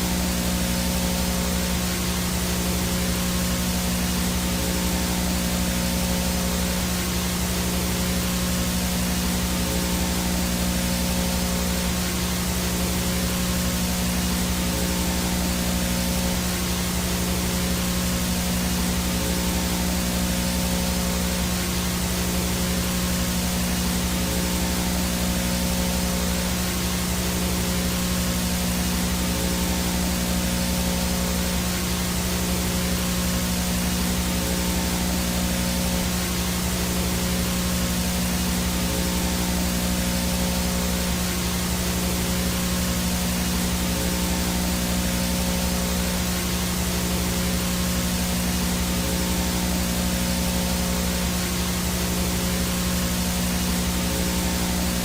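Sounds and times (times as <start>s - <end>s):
low electrical buzz: 0.0s - 55.0s
video static hiss: 0.0s - 55.0s.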